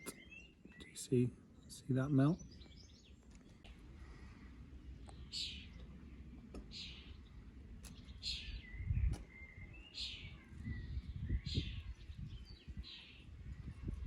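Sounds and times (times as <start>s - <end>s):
small bird chirping: 0.0s - 3.8s, 4.9s - 14.0s.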